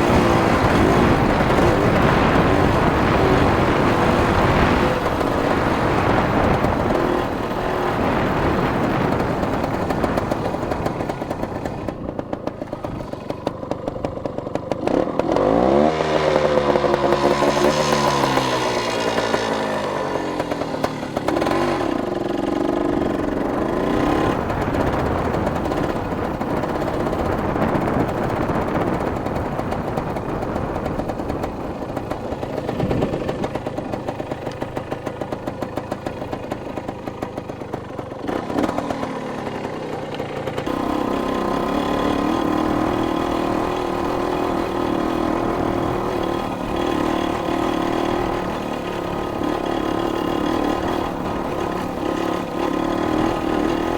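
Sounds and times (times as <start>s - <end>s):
dirt bike engine revving: 0.0s - 12.0s, 12.6s - 35.0s, 38.2s - 53.9s.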